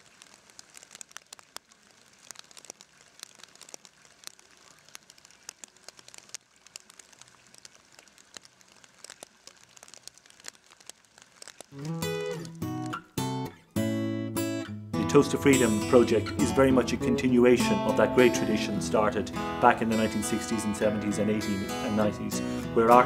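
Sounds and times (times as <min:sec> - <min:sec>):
faint crackling and clicking: 0:00.0 - 0:13.7, 0:15.5 - 0:23.0.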